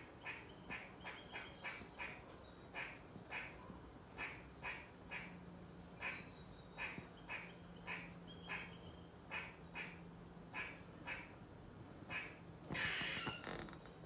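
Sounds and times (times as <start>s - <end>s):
squirrel barking calls: 0.0s - 5.4s, 6.0s - 11.4s, 12.1s - 13.3s.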